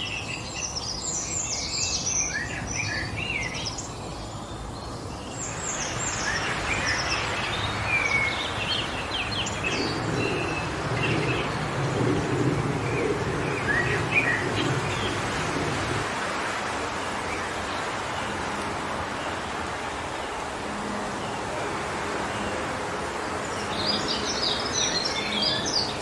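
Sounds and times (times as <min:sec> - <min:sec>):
small birds chirping: 0:00.0 - 0:26.0
wind rushing through trees: 0:00.0 - 0:26.0.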